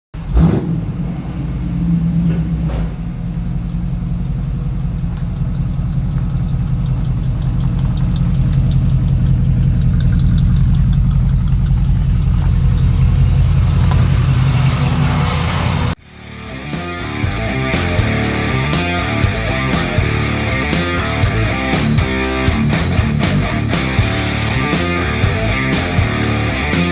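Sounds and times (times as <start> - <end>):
truck engine running: 0.2 - 26.9.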